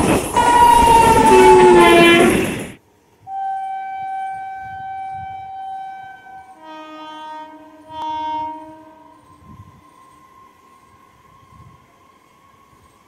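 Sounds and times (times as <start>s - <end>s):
many-note train horn: 0.4s - 2.4s, 3.2s - 12.9s
train horn blast: 0.4s - 2.4s, 3.2s - 11.8s.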